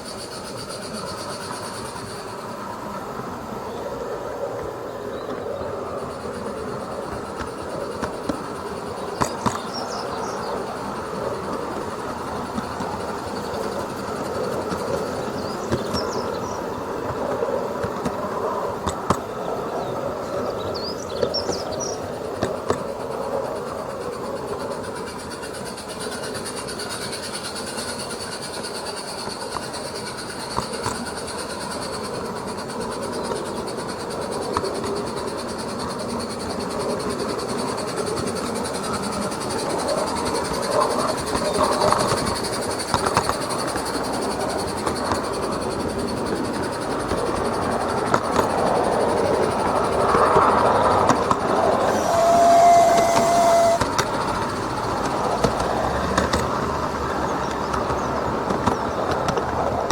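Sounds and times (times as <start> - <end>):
model train wheels rumbling: 0.0 - 59.9
wheels clicking over rail joints: 0.0 - 59.9.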